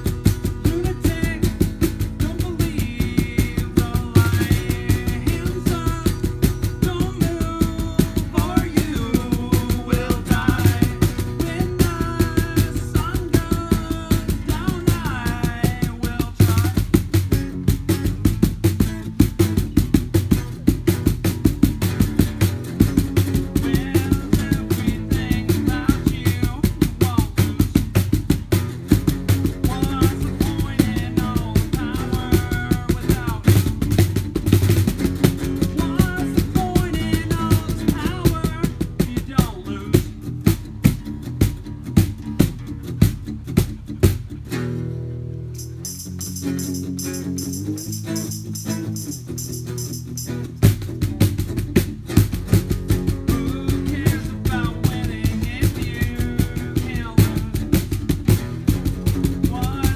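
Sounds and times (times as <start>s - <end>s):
hand percussion beat: 0.0s - 44.4s, 45.5s - 59.9s
acoustic guitars strummed: 0.0s - 59.9s.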